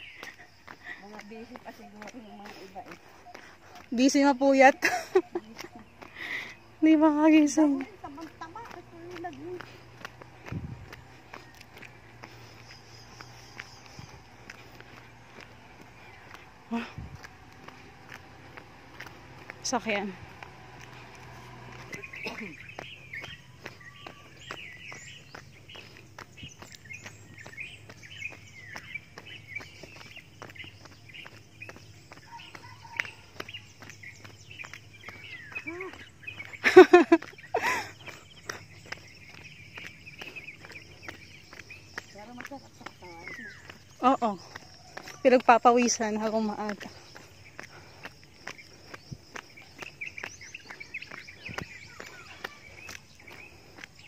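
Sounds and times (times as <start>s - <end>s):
birds chirping: 0.0s - 54.0s
footsteps jogging on concrete: 0.0s - 54.0s.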